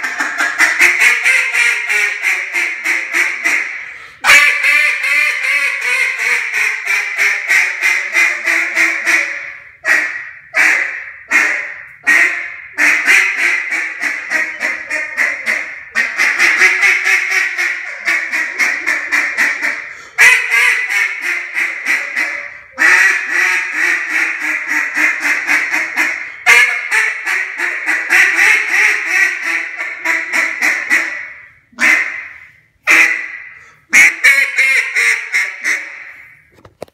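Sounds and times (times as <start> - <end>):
duck call quacking: 0.0 - 36.5.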